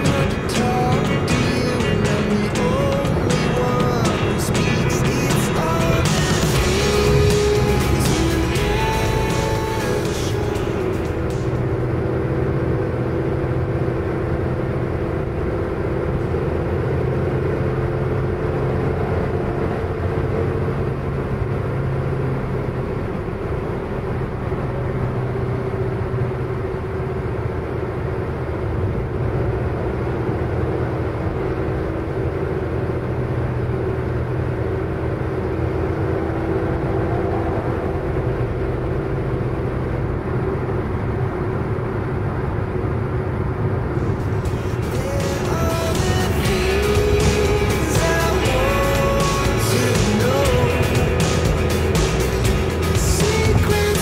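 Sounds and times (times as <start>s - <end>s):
motor scooter running: 0.0s - 54.0s
road and traffic noise: 0.0s - 54.0s.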